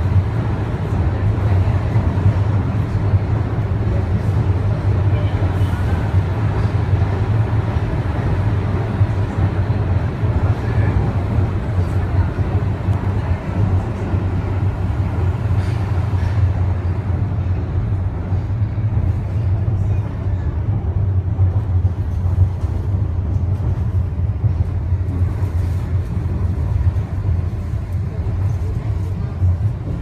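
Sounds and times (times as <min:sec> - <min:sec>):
suspension railway car rumbling: 0:00.0 - 0:30.0.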